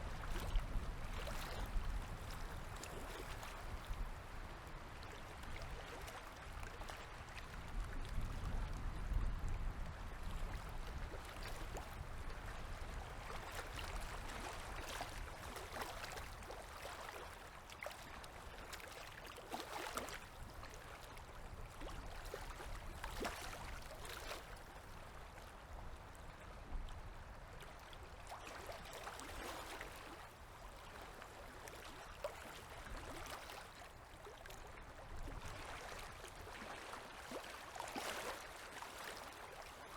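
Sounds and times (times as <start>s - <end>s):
river water lapping: 0.0s - 9.1s, 9.9s - 26.4s, 27.0s - 39.9s
small water splashes: 0.0s - 26.4s, 27.5s - 39.9s.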